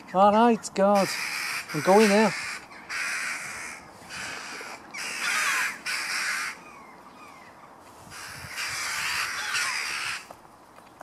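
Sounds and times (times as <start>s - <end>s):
crows cawing harshly: 1.0s - 10.4s.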